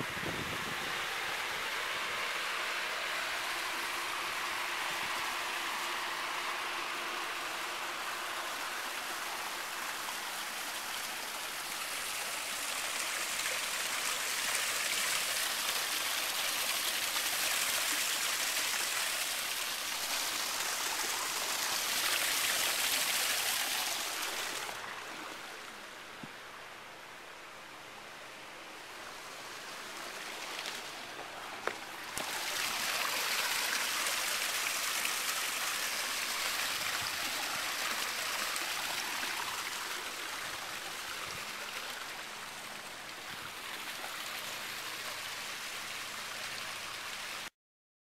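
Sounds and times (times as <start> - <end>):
waterfall splashing over boulders: 0.0 - 26.4, 28.9 - 47.5.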